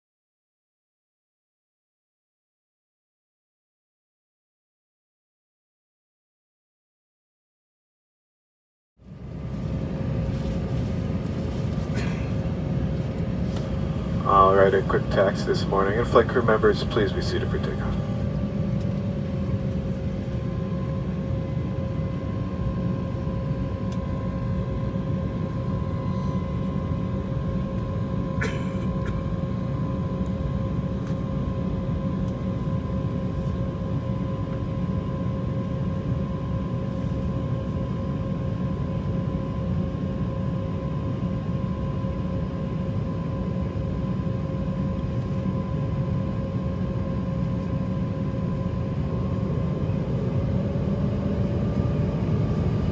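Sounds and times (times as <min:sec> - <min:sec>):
jet engine rumble: 0:09.0 - 0:52.9
jet engine whine: 0:09.0 - 0:52.9.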